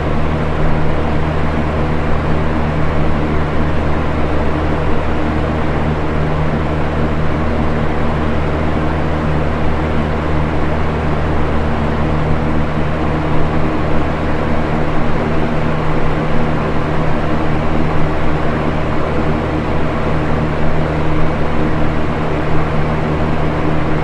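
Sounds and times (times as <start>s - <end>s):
box fan running: 0.0s - 24.0s.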